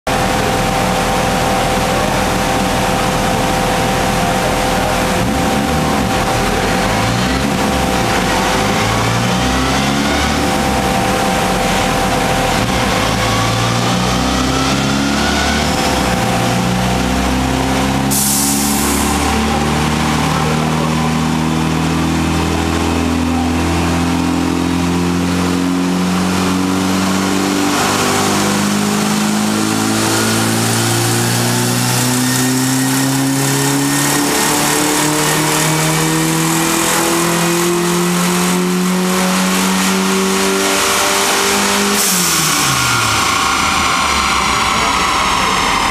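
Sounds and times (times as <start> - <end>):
van engine running hard: 0.1 - 45.9.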